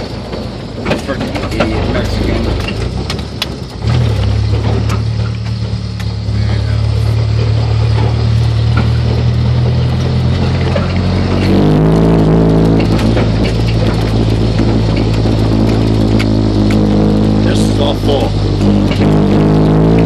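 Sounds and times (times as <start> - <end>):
loud car engine running: 0.0 - 20.0.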